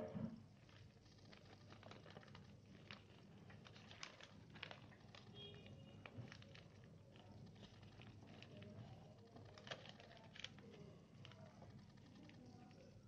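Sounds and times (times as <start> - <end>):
paper rustling and crinkling: 0.7 - 11.7.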